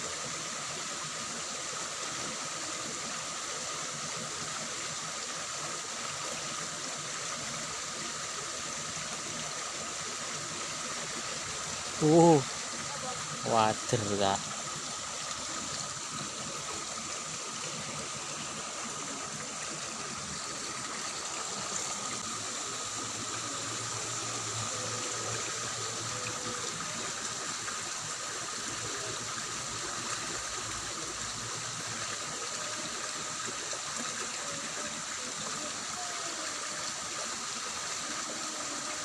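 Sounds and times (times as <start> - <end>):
water flowing in a ditch: 0.0 - 39.0.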